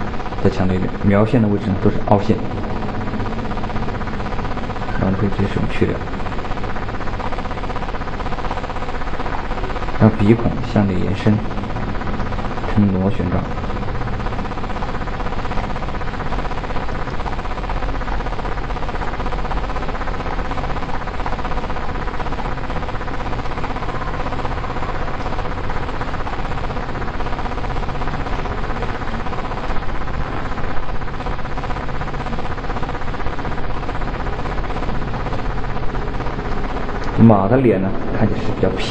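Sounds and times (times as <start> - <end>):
milling machine running: 0.0 - 38.9.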